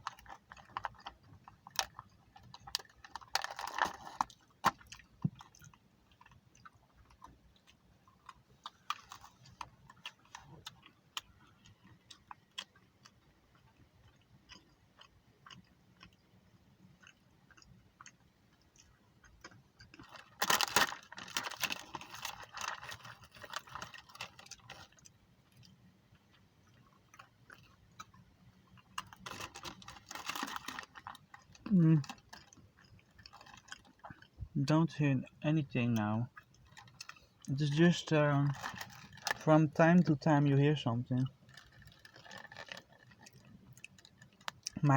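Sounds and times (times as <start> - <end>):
person chewing: 0.0 - 16.2, 16.9 - 34.5, 41.3 - 44.8.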